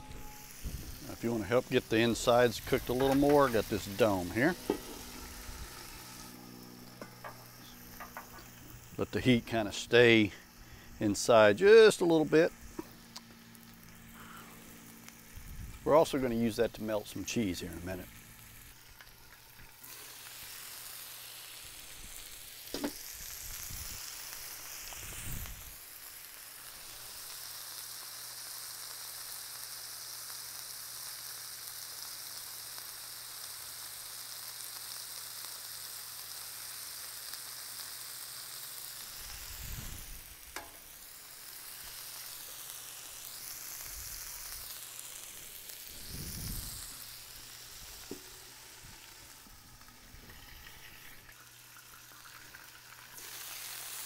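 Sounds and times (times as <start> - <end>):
burger patties sizzling: 0.0 - 54.0.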